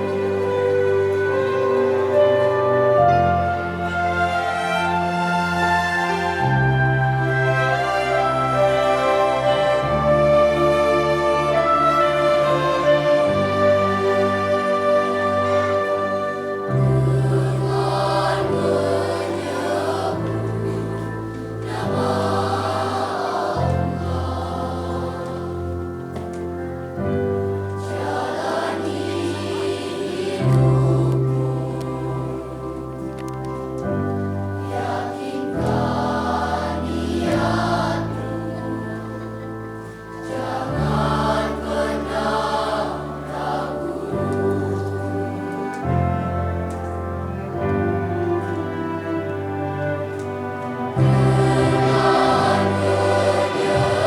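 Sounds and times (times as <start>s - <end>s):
children's choir singing: 0.0s - 54.0s
piano: 0.0s - 54.0s
string orchestra: 0.0s - 54.0s.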